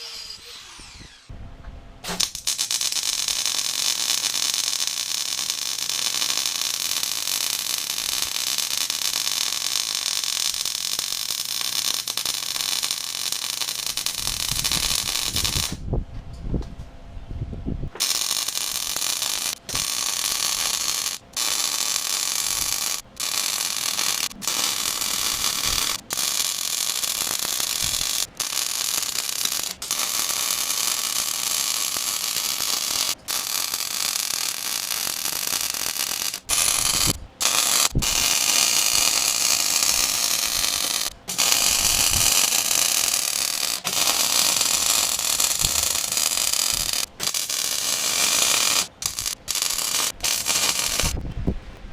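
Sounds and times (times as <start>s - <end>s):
electric arc welding hiss: 0.0s - 1.3s, 2.0s - 15.8s, 18.0s - 51.8s.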